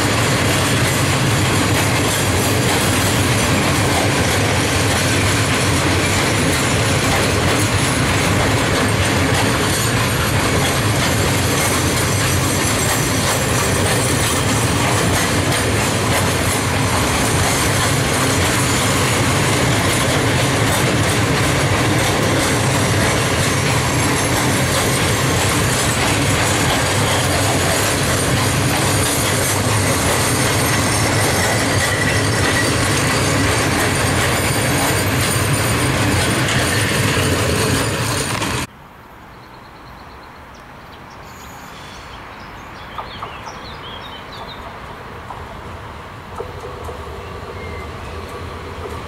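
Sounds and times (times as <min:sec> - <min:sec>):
train wheels rattling on rails: 0:00.0 - 0:38.7, 0:42.6 - 0:49.0.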